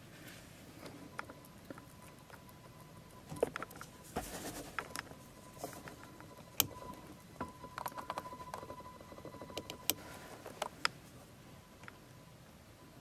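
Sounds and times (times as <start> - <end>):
faint steady high tone: 0.8 - 13.0.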